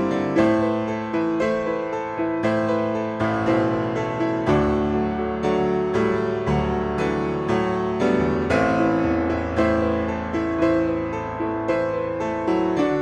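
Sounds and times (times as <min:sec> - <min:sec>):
slow piano piece: 0:00.0 - 0:13.0.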